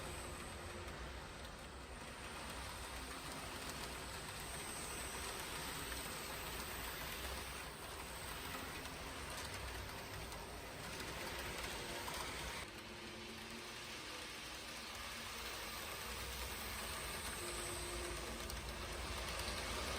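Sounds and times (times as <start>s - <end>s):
model train motor hum: 0.0s - 19.9s.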